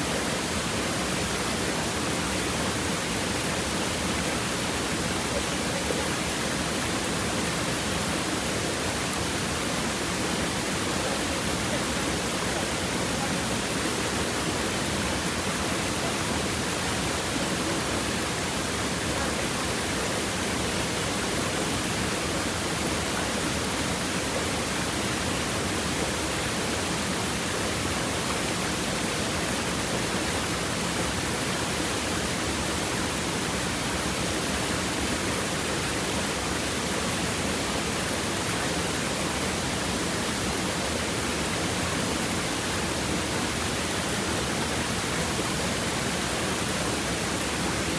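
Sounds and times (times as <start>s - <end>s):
stream water flowing over stones: 0.0s - 47.9s.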